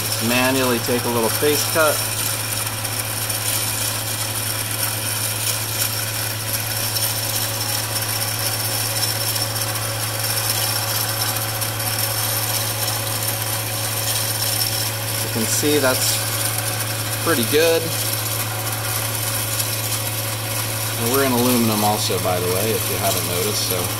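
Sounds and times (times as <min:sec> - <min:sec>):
metal lathe humming: 0:00.0 - 0:23.9.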